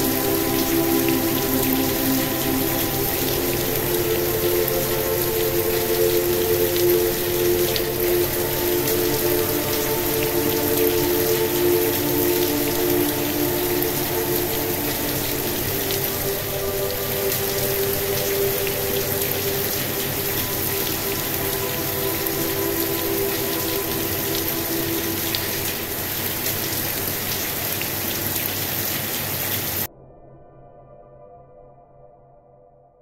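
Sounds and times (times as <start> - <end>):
soft relaxation music drone: 0.0 - 29.2, 29.8 - 33.0
rain pattering: 0.0 - 29.9.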